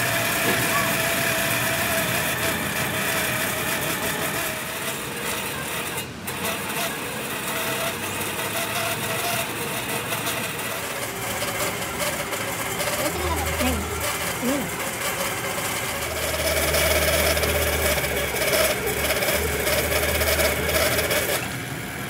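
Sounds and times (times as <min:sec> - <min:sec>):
machine running with whine: 0:00.0 - 0:22.0.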